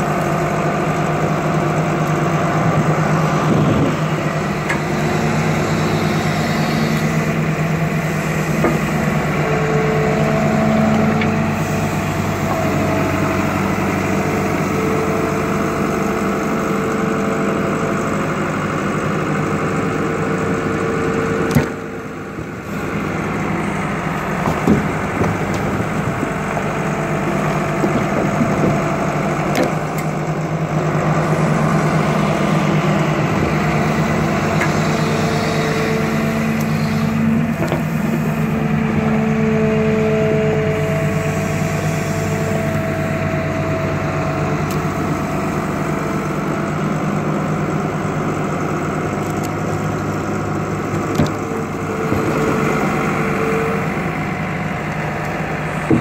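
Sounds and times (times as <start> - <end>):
excavator diesel engine running: 0.0 - 56.0
excavator digging and dumping dirt: 0.0 - 56.0.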